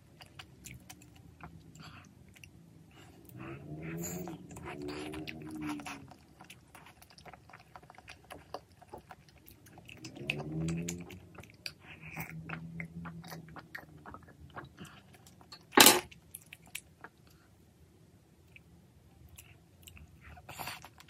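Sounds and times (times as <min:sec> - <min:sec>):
chewing and slurping: 0:00.0 - 0:17.4, 0:19.3 - 0:21.0.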